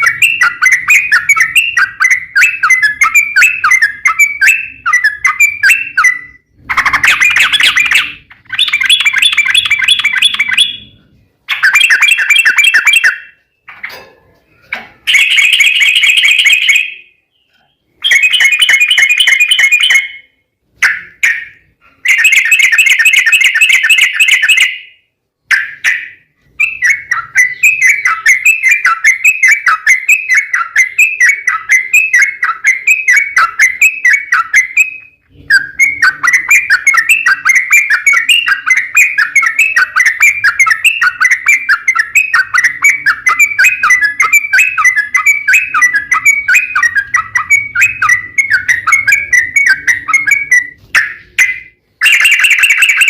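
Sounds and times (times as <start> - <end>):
bulbul singing rolling song: 0.0 - 53.0.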